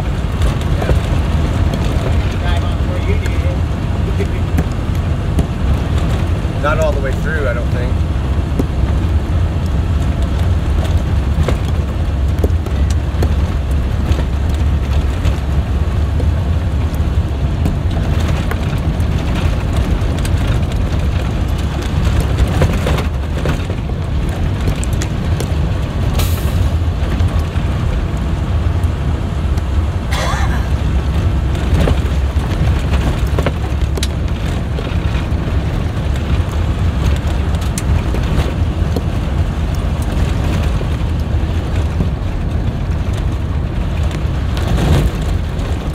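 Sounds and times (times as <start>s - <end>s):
bus engine and road rumble: 0.0s - 45.9s
rattles and knocks over bumps: 0.0s - 45.9s.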